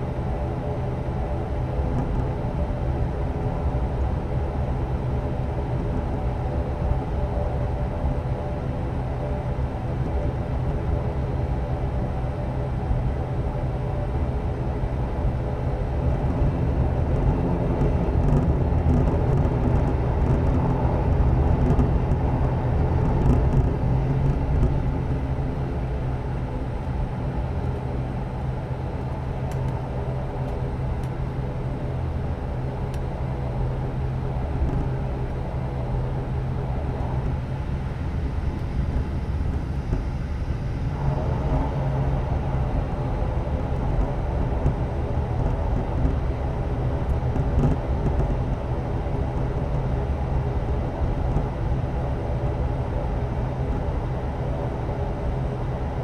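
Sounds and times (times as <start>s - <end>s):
turboprop engine drone in cabin: 0.0s - 56.0s.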